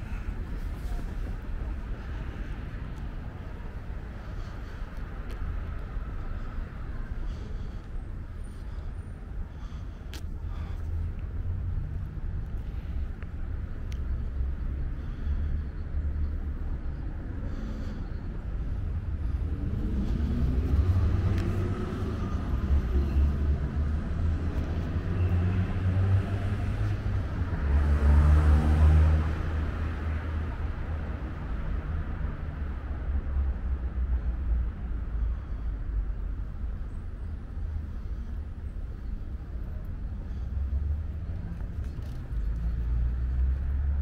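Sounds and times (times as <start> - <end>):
cars driving past: 0.0 - 44.0.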